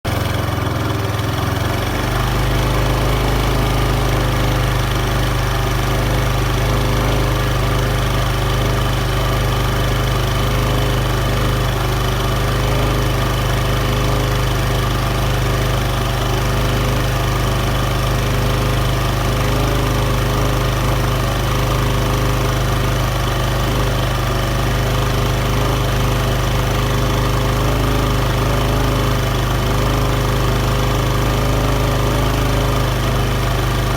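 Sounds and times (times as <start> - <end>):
abnormal drivetrain noise: 0.1 - 33.9
engine running steadily: 0.1 - 33.9.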